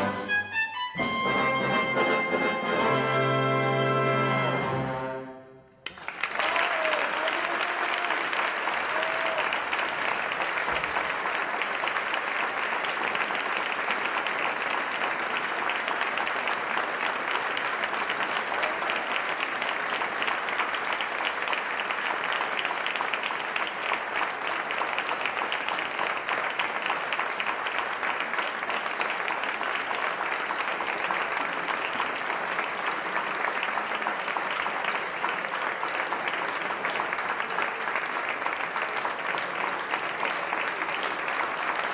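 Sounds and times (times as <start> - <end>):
audience applauding: 5.8 - 41.9.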